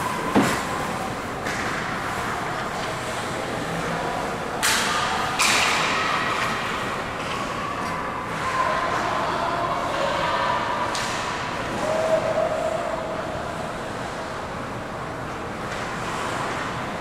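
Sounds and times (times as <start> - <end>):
rink hall noise: 0.0 - 17.0.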